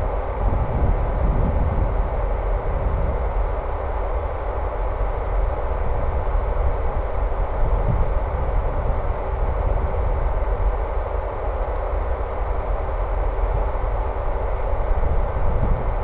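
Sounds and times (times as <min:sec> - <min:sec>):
wind buffeting microphone: 0:00.0 - 0:03.6, 0:05.7 - 0:11.2, 0:12.0 - 0:16.0.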